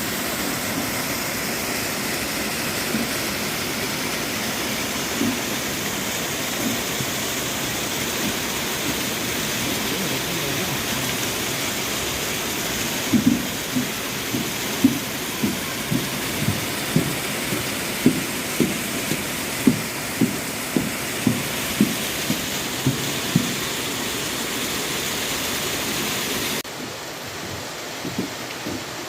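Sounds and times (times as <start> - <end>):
stream rushing: 0.0 - 29.0.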